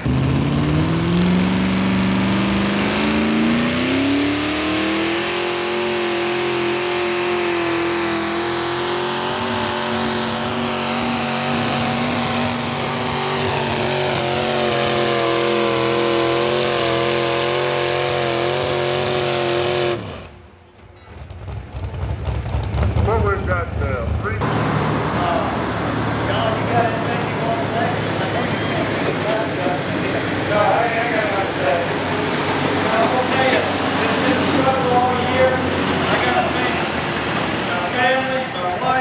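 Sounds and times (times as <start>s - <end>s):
tractor engine at full throttle: 0.0s - 39.0s.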